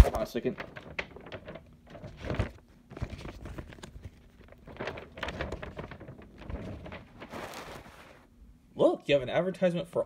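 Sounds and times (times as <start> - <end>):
paper rustling and crinkling: 0.0 - 8.3.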